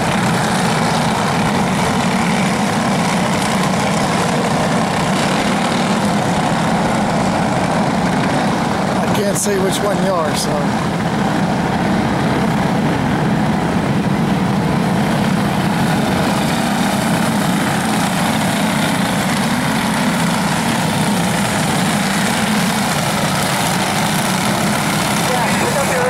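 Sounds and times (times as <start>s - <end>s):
racing kart engines droning: 0.0s - 26.0s.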